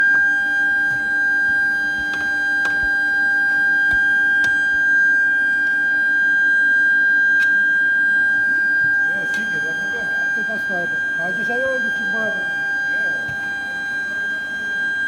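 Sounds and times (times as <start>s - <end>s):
high-pitched whine: 0.0s - 15.0s.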